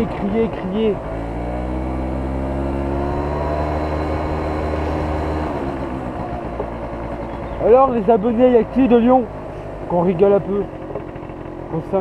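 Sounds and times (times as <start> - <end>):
scooter engine under throttle: 0.0 - 12.0
wind and road rumble: 0.0 - 12.0.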